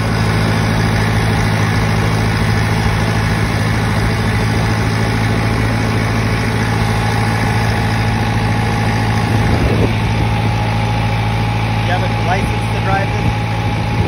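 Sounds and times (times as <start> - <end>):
steady high whine: 0.0 - 14.0
tractor engine running: 0.0 - 14.0.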